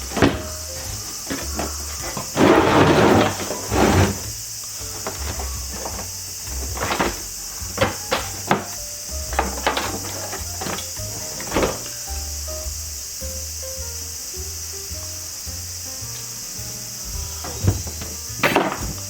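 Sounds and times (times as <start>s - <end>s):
high insect chirring: 0.0s - 19.0s.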